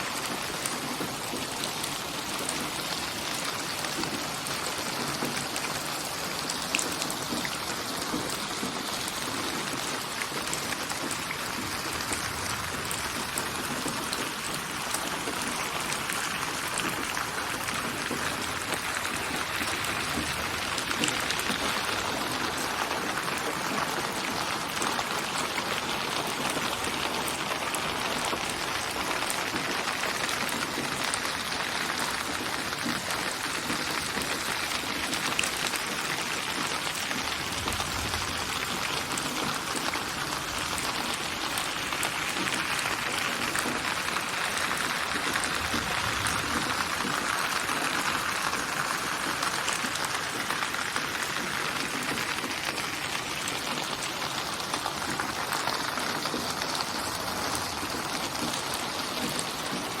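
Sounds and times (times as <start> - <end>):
rain pattering: 0.0 - 60.0.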